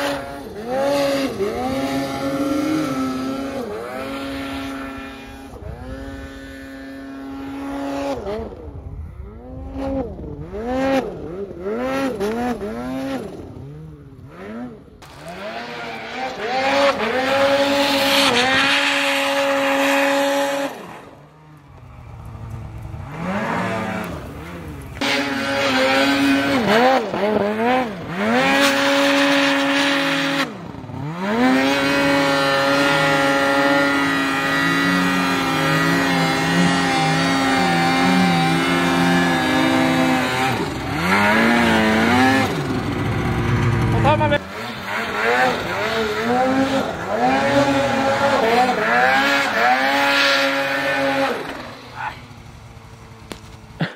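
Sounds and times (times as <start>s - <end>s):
snowmobile engine revving: 0.0s - 53.9s.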